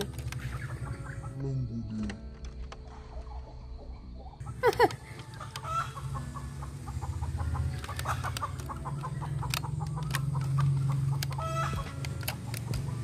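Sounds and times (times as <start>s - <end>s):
chickens clucking: 0.0s - 1.4s, 3.1s - 13.0s.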